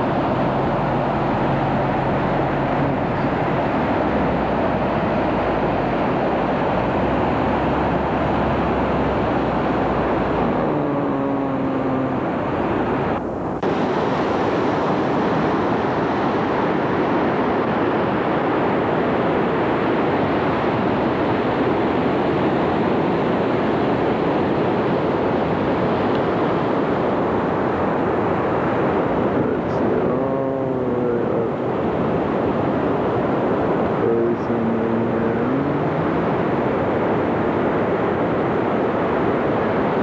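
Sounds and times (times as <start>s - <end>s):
ocean surf breaking: 0.0s - 40.0s.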